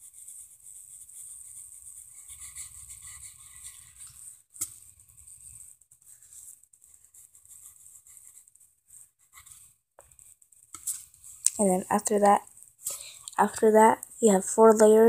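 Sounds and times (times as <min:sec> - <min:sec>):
pencil scratching on paper: 0:00.0 - 0:13.2.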